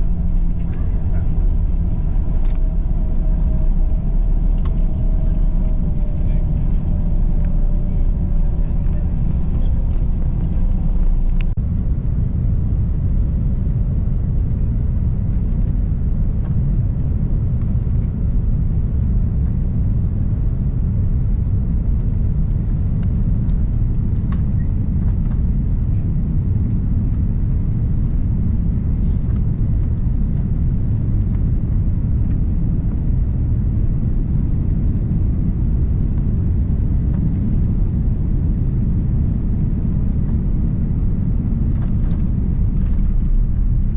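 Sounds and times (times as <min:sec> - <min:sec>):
jet engines and airflow rumble: 0:00.0 - 0:43.9.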